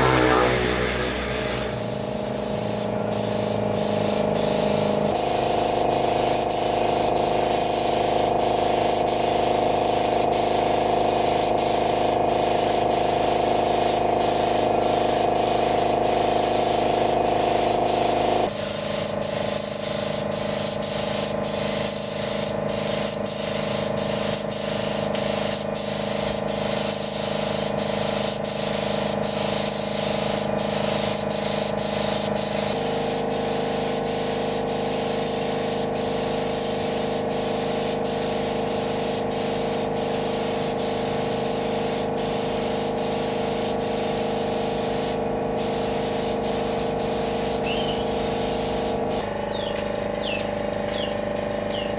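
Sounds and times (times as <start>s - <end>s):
spray gun hissing: 0.0s - 49.2s.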